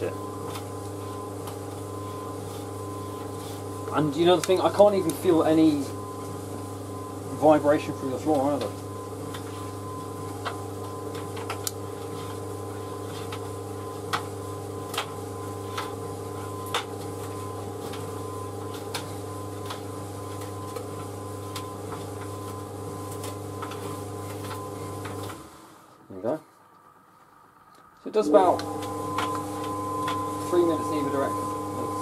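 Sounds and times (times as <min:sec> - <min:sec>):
tumble dryer running: 0:00.0 - 0:26.3, 0:28.1 - 0:32.0.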